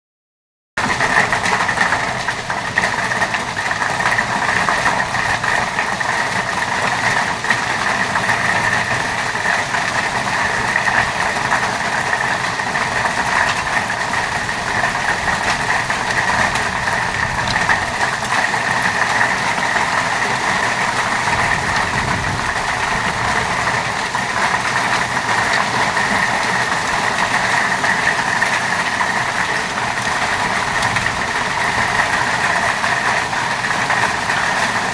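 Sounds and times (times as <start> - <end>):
heavy rain with hail: 0.8 - 34.9.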